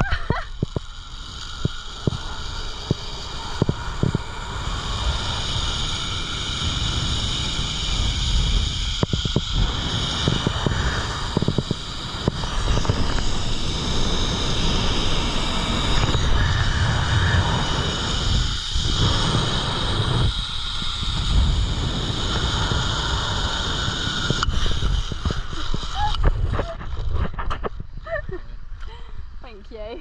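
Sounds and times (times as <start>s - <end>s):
trolley whining along cable: 0.0s - 27.7s
wind rushing over microphone: 0.0s - 30.0s.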